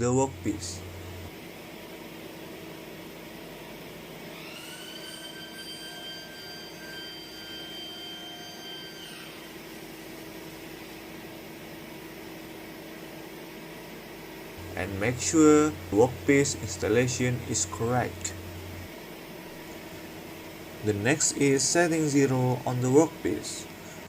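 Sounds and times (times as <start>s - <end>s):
motor high whine: 0.0s - 24.0s
workshop machinery hum: 0.0s - 24.0s.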